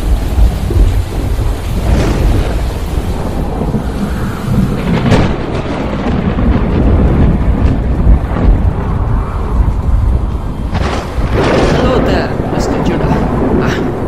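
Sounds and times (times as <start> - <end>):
rolling thunder: 0.0 - 14.0
steady rain: 0.0 - 14.0.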